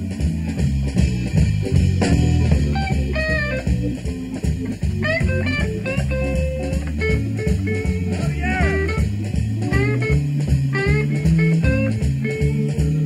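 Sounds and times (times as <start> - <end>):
lead electric guitar: 0.0 - 13.0
rock band playing blues: 0.0 - 13.0.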